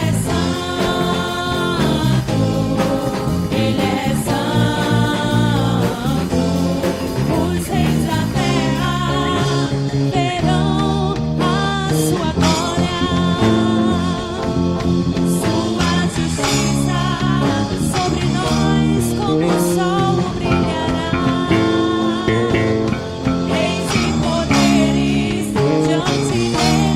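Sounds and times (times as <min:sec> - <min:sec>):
guitar: 0:00.0 - 0:26.9
people singing: 0:00.0 - 0:26.9
worship band playing: 0:00.0 - 0:26.9.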